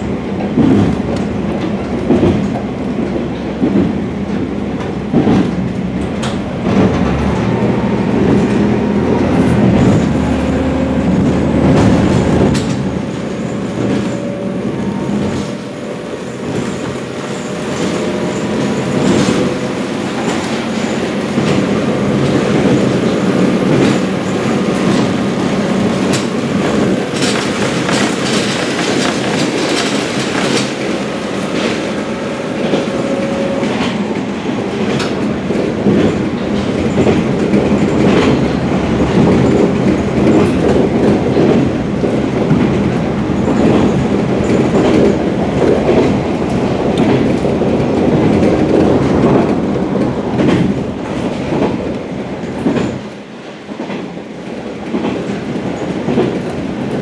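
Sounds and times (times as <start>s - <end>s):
train rumbling: 0.0s - 57.0s
wheels clacking over rail joints: 0.0s - 57.0s.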